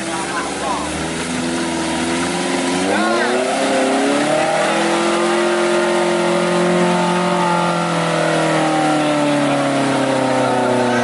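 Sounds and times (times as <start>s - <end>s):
jeep engine at high revs: 0.0s - 11.0s.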